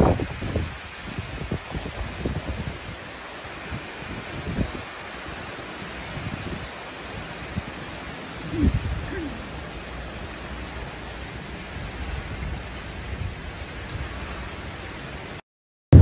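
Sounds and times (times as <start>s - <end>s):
heavy wind-driven rain: 0.0s - 15.4s.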